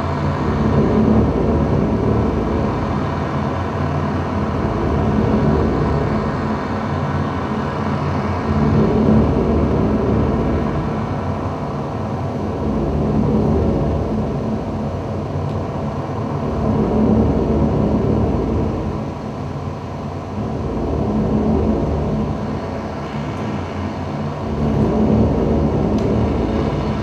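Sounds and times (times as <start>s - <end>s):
low rumbling drone: 0.0s - 27.0s.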